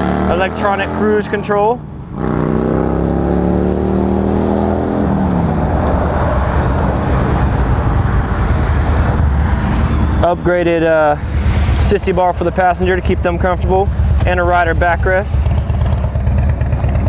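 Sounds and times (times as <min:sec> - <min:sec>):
motor vehicle passing: 0:00.0 - 0:17.0
traffic and road noise: 0:00.0 - 0:17.0.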